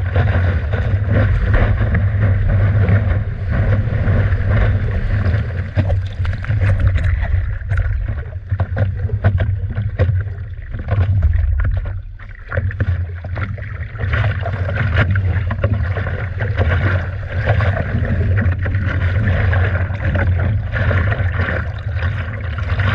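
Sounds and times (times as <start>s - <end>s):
water rushing under board: 0.0s - 22.9s
water splashing: 0.0s - 22.9s
wind rumble on microphone: 0.0s - 22.9s.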